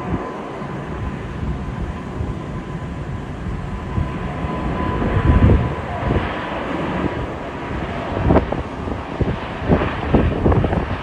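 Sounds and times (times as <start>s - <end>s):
jet airliner taking off: 0.0s - 11.0s.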